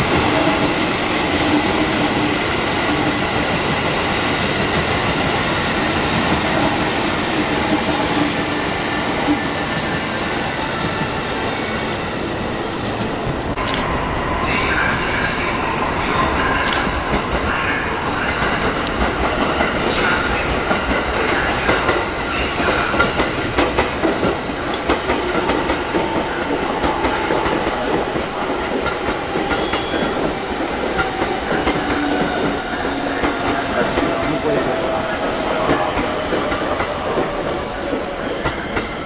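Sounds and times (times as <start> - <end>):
electric train passing: 0.0 - 39.0.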